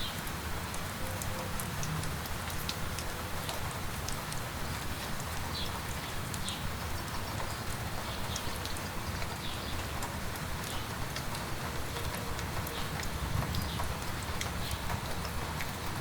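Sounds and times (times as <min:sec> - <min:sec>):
light rain falling: 0:00.0 - 0:16.0
sharp drips: 0:00.0 - 0:16.0.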